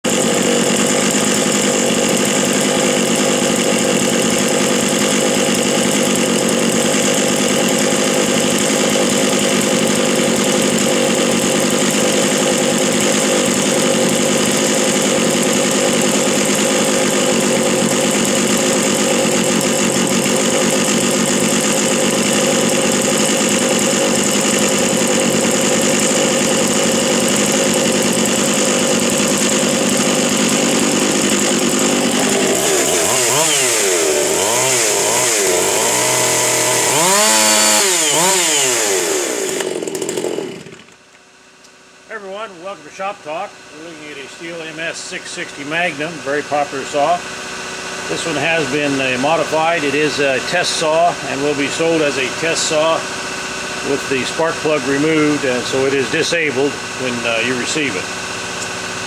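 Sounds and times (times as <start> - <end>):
chainsaw engine running steadily: 0.0 - 59.0.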